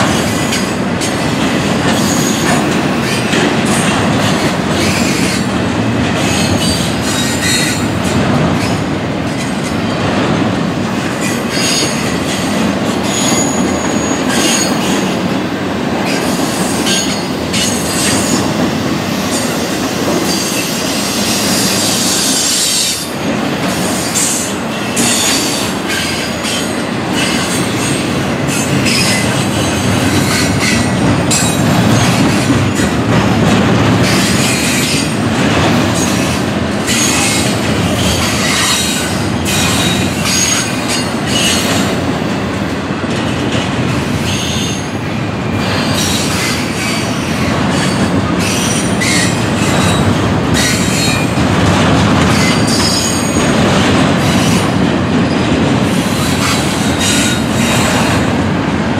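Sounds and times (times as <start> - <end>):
steel wheels rumbling on rail: 0.0 - 58.9
train clanks: 0.0 - 58.9.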